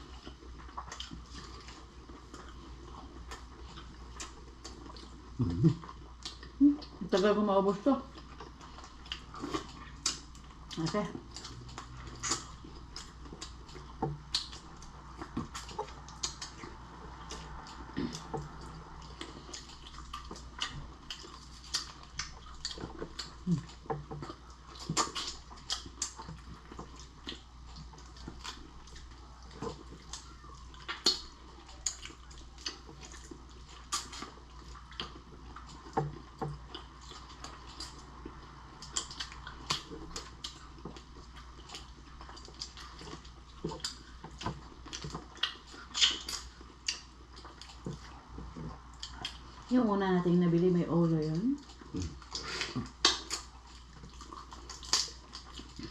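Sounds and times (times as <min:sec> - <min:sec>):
wet chewing and slurping: 0:00.0 - 0:07.1, 0:08.0 - 0:49.7, 0:51.6 - 0:55.9.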